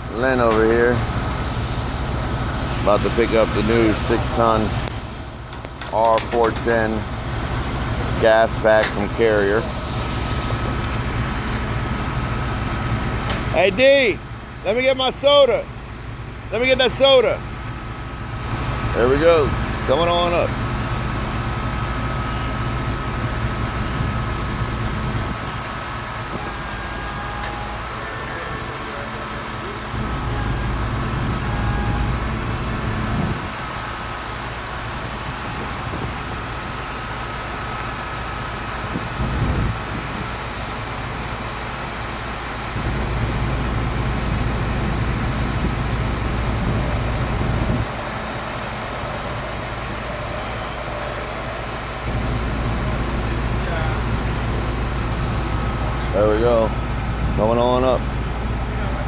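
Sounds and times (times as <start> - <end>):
thin steady whine: 0.0 - 59.0
truck engine running under load: 0.0 - 59.0.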